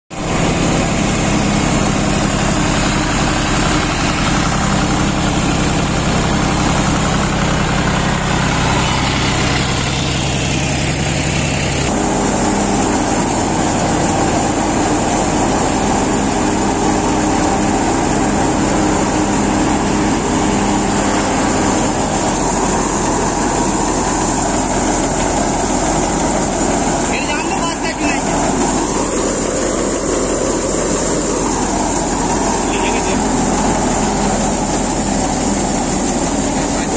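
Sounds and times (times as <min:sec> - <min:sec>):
grain thresher whirring: 0:00.1 - 0:36.9
tractor diesel engine running: 0:00.1 - 0:36.9.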